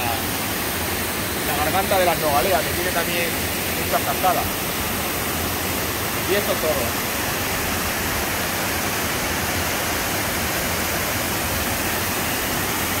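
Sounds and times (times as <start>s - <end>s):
waterfall crashing: 0.0s - 13.0s.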